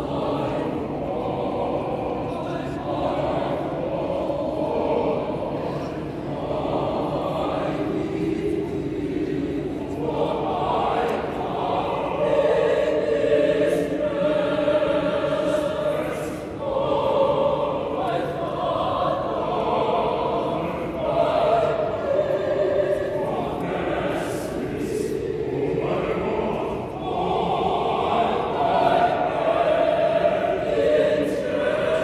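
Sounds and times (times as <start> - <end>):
choir singing a hymn: 0.0 - 32.0.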